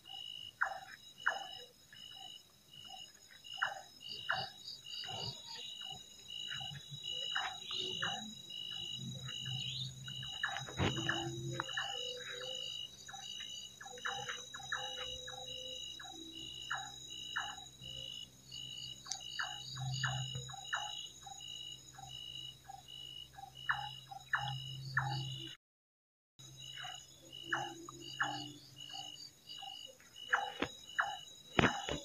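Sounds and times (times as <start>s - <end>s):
frogs pulsing high note: 0.0s - 25.6s, 26.4s - 32.0s.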